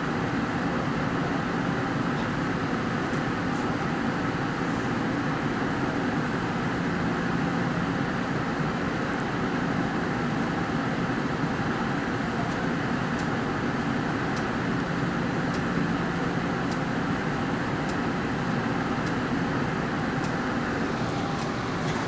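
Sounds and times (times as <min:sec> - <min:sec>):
light rail train rumble and hiss: 0:00.0 - 0:22.0.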